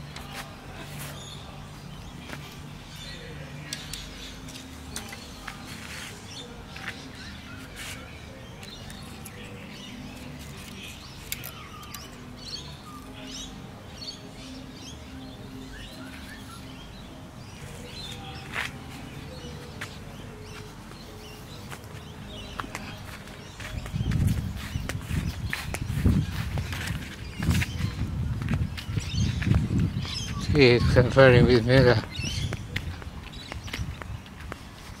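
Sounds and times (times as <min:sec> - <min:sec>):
birds chirping and calling: 0:00.0 - 0:35.0.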